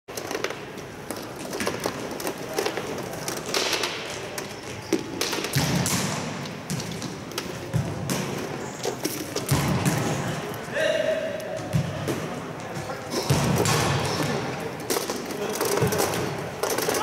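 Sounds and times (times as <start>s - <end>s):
balls kicked and bouncing indoors: 0.1s - 17.0s.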